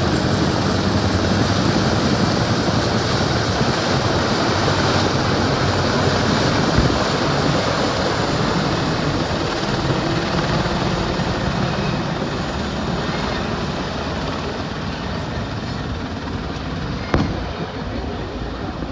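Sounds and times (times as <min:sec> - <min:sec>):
military aircraft flying over: 0:00.0 - 0:18.9.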